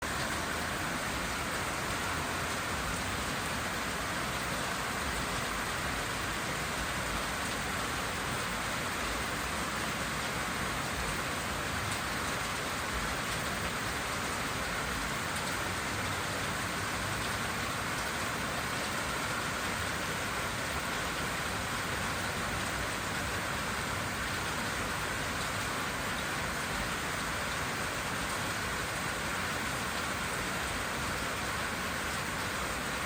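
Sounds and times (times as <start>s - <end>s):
steady rainfall hiss: 0.0s - 33.0s.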